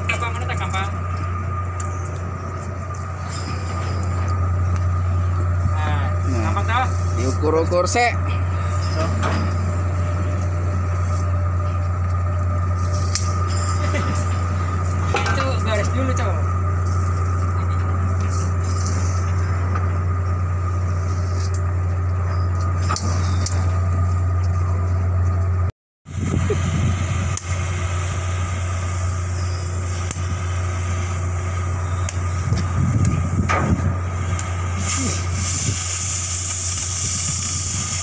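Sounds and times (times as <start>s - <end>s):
machinery drone: 0.0s - 38.0s.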